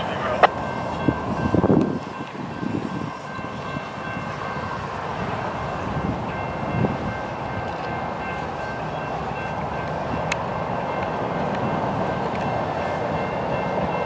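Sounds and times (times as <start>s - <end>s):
diesel locomotive engines rumbling: 0.0s - 14.0s
rolling train cars: 0.0s - 14.0s.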